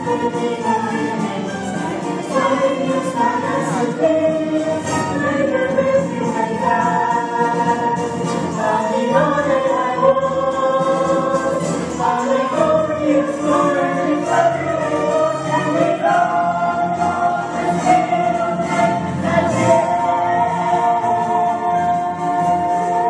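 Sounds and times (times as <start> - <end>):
choir singing long held notes: 0.0 - 23.0
musical accompaniment: 0.0 - 23.0.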